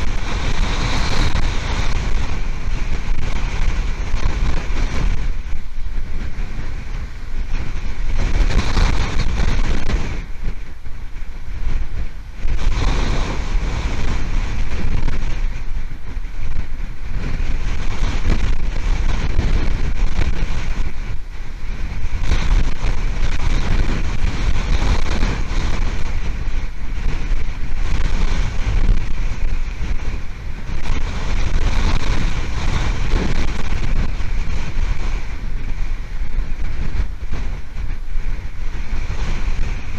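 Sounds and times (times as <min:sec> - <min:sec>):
hurricane winds buffeting microphone: 0:00.0 - 0:39.9.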